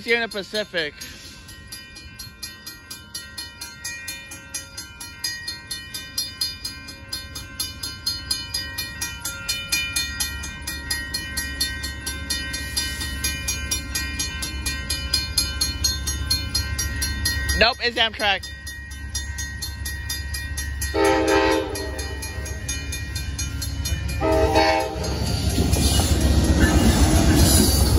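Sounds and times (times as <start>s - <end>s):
crossing bell ringing: 0.0s - 27.9s
train rumble: 0.0s - 27.9s.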